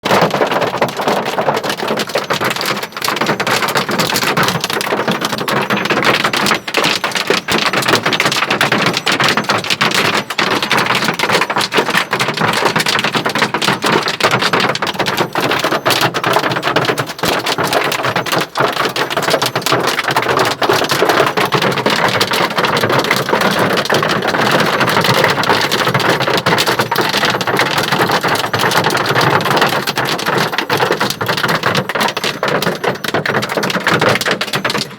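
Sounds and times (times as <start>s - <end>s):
hail and rain striking surfaces: 0.0s - 34.9s.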